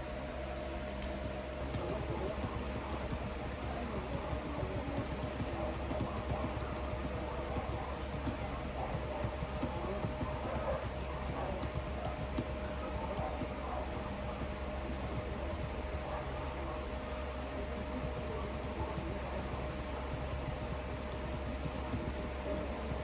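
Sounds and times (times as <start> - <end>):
steady low hum: 0.0 - 23.0
keyboard typing clicks: 1.0 - 16.0, 17.8 - 23.0.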